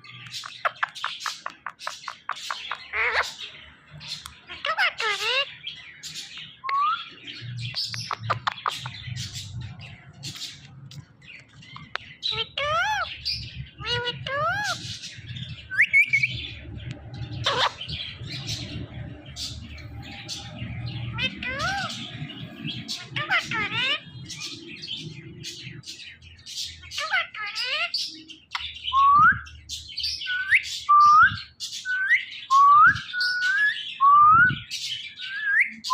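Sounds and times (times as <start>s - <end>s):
scratchy high bird chatter: 0.0s - 33.8s
parrot chirping: 0.2s - 25.9s, 26.6s - 35.9s.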